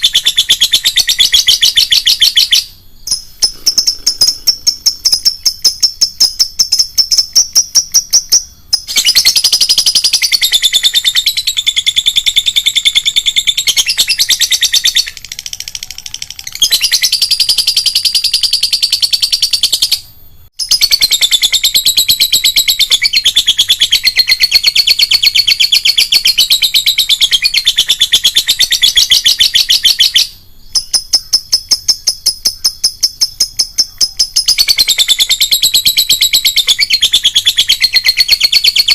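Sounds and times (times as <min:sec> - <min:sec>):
lovebird chattering: 0:00.0 - 0:20.0, 0:20.6 - 0:38.9
lovebird sharp repeated chirps: 0:00.0 - 0:38.9.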